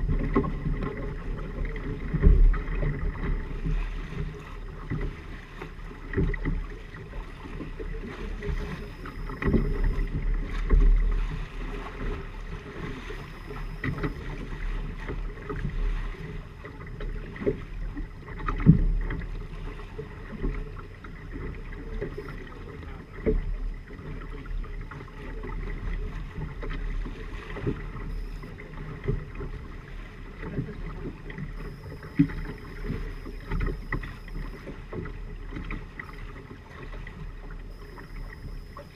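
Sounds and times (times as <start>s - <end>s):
water rushing and slapping hulls: 0.0s - 38.9s.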